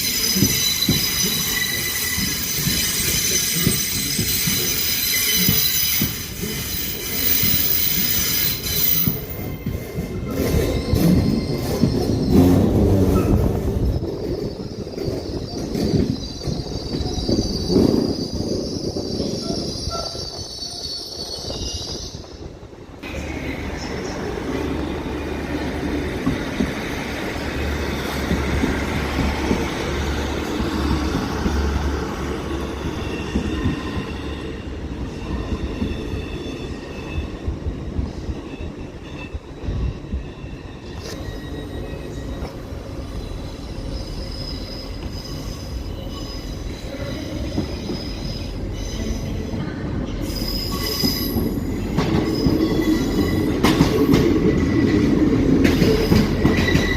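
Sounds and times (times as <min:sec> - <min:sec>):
train wheels squealing on rails: 0:00.0 - 0:56.9.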